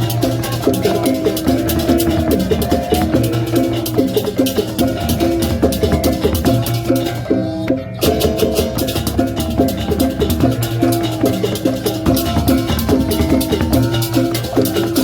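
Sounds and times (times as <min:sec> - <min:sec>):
drums: 0:00.0 - 0:15.0
gamelan notes: 0:00.0 - 0:15.0.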